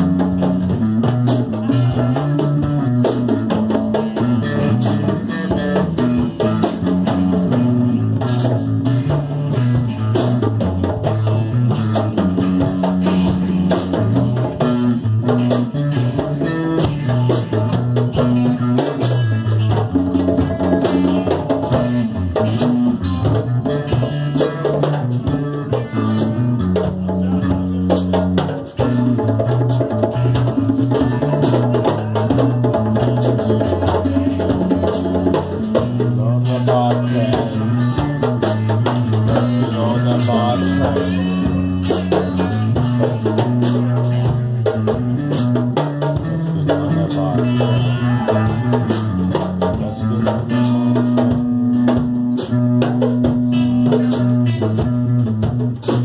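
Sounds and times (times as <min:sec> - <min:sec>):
djembe hand drumming: 0:00.0 - 0:56.0
electric guitar melody: 0:00.0 - 0:56.0.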